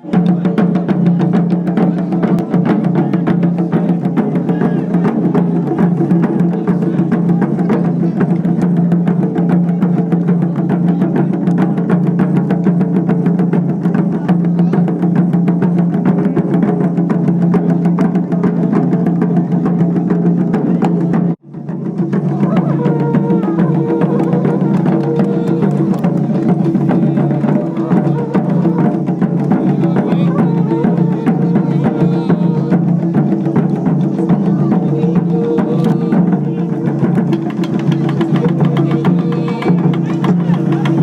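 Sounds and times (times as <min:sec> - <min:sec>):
music with drums and percussion: 0:00.0 - 0:41.0.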